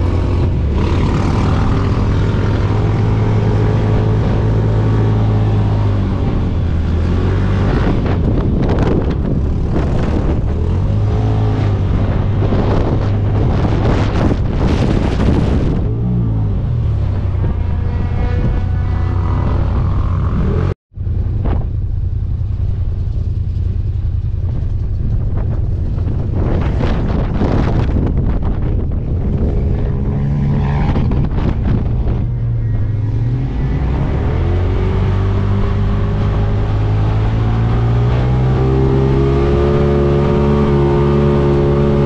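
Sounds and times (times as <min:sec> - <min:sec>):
off-road vehicle engine revving: 0:00.0 - 0:20.8, 0:26.3 - 0:42.0
wind noise on microphone: 0:00.0 - 0:42.0.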